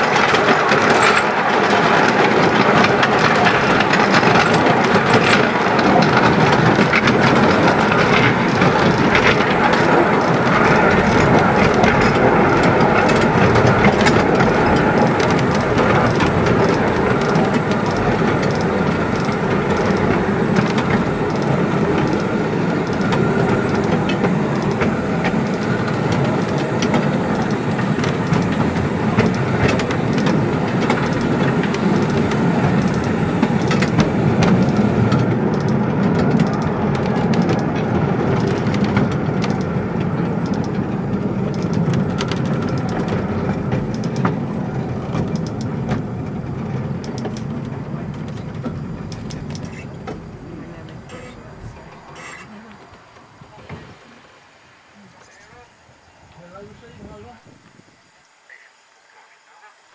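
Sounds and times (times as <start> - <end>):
train wheels clattering on track: 0.0 - 54.6
steam locomotive running: 0.0 - 59.9.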